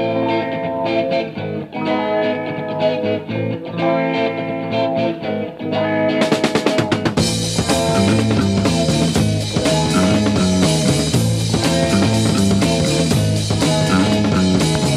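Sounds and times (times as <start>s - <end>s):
psychedelic rock guitar chords: 0.0s - 14.9s.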